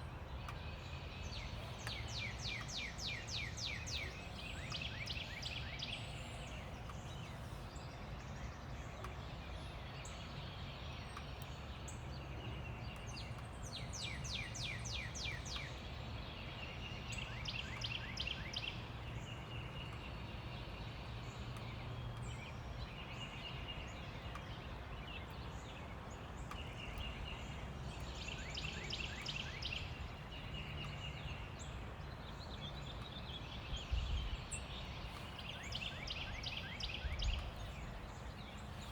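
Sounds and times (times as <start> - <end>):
distant road traffic rumble: 0.0 - 16.3, 16.9 - 38.9
songbirds singing: 0.0 - 38.9.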